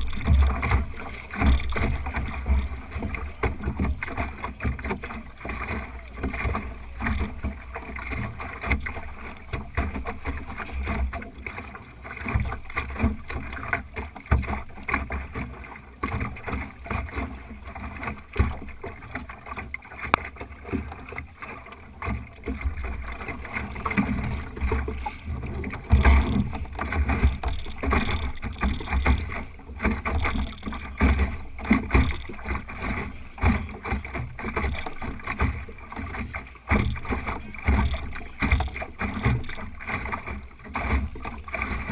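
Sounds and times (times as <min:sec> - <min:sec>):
knocks and splashes: 0:00.0 - 0:41.9
water rushing along boat hull: 0:00.0 - 0:41.9.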